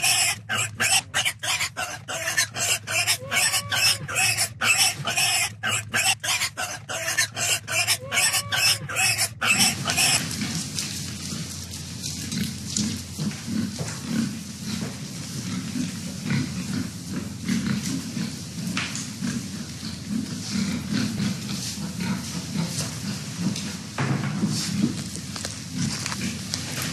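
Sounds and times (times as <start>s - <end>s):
pigs grunting: 0.0s - 26.9s.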